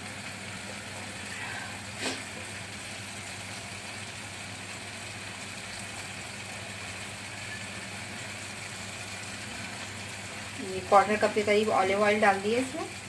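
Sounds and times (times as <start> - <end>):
paste sizzling in oil: 0.0 - 13.0.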